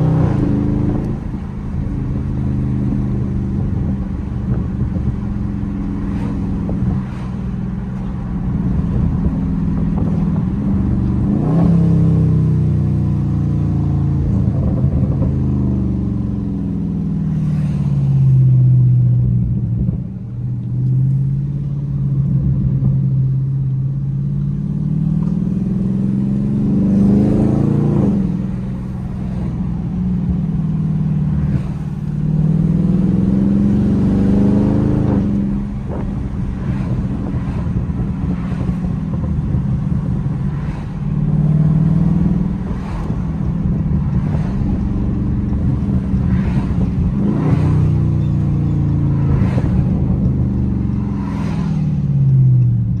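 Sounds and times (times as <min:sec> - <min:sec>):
car engine exhaust revving: 0:00.0 - 0:23.1, 0:24.6 - 0:53.0.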